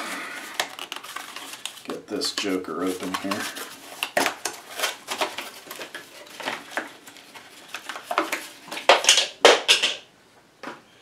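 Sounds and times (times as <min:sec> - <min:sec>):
packaging scratchy handling noises: 0:00.0 - 0:10.0.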